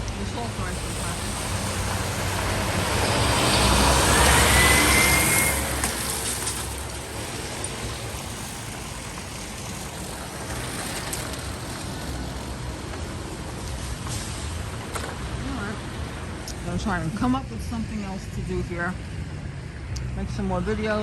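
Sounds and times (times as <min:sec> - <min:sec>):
engine whine: 0:00.0 - 0:21.0
snowplow truck engine rumble: 0:00.0 - 0:21.0
traffic hiss: 0:00.0 - 0:21.0.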